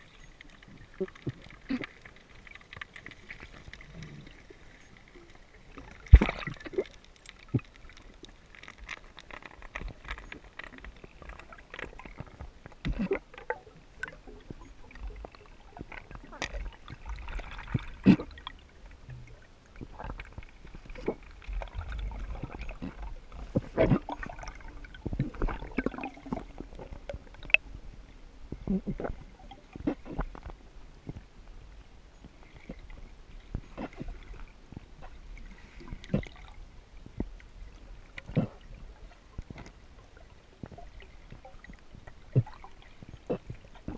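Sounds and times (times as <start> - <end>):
muffled underwater knocks and clicks: 0.0 - 27.8, 28.5 - 31.3, 32.2 - 43.9
low water rumble: 0.0 - 43.9.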